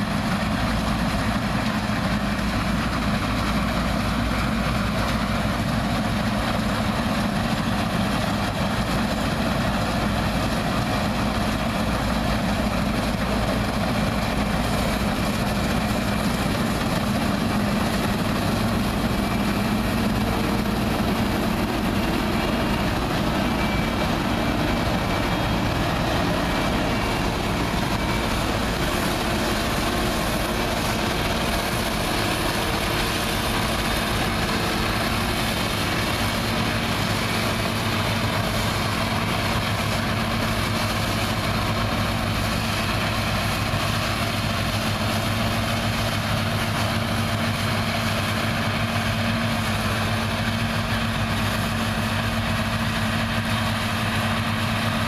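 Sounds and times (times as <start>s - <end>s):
diesel engine humming: 0.0s - 55.0s
threshing machinery noise: 0.0s - 55.0s.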